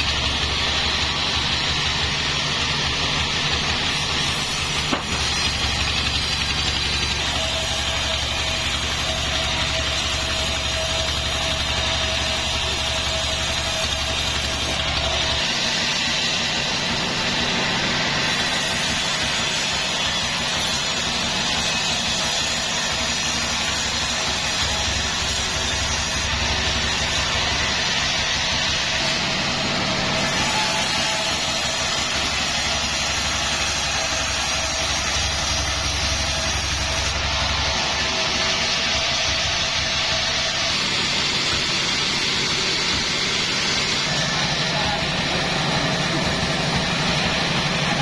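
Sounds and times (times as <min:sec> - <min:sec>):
sawmill machinery drone: 0:00.0 - 0:48.0.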